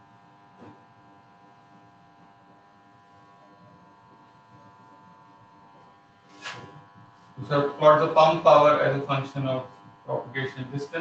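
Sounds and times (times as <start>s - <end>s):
faint electrical buzz: 0.1s - 11.0s.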